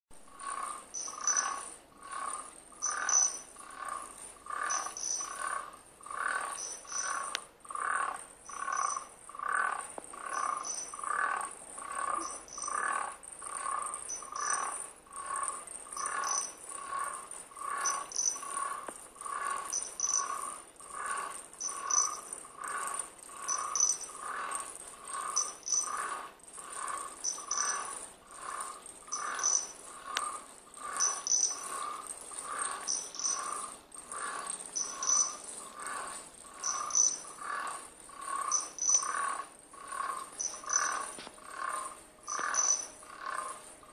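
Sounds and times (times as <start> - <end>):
cricket chirping imitation: 0.3 - 43.9
higher thinner chirps: 0.5 - 43.5.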